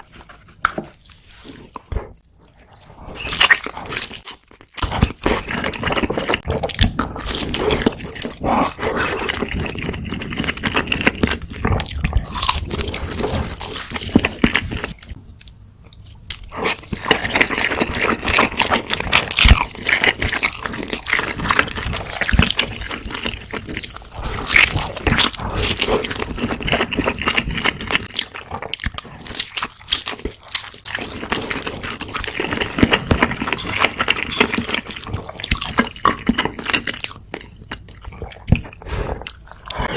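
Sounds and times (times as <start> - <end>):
wet chewing: 0.0 - 39.9
crunching bites: 3.1 - 15.2, 16.3 - 39.9.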